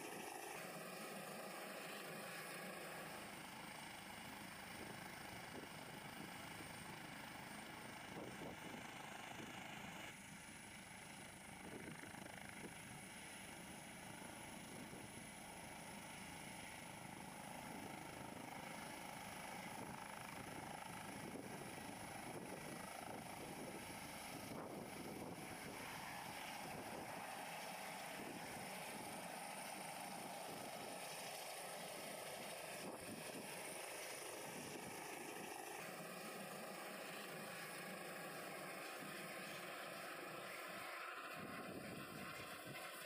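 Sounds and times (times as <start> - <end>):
helicopter rotor and turbines: 0.0 - 43.0.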